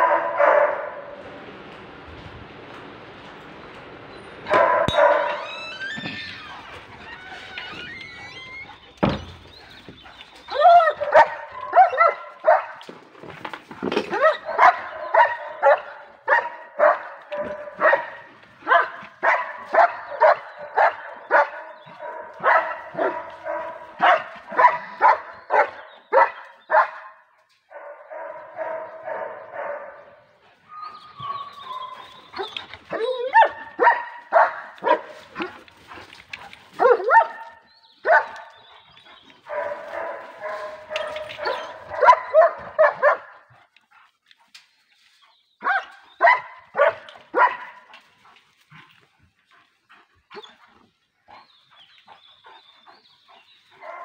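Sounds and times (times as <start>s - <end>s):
dogs barking: 0.0s - 1.2s, 4.4s - 5.6s, 7.7s - 12.9s, 14.0s - 44.1s, 45.6s - 48.3s, 49.3s - 54.0s.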